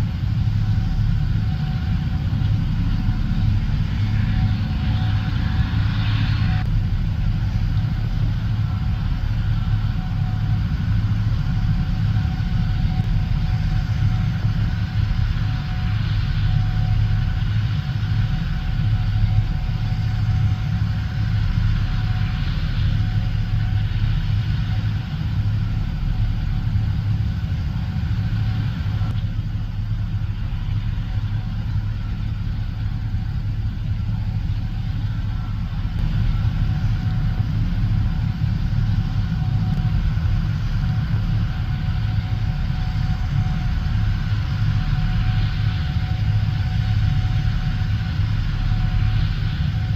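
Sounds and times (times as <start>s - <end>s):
combine engine drone: 0.0s - 49.9s
high steady whine: 0.0s - 49.9s.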